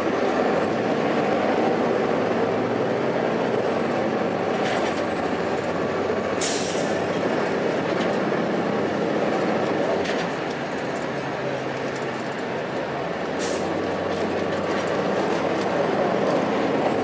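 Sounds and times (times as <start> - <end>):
bus diesel engine running: 0.0 - 17.0
road and cabin noise: 0.0 - 17.0.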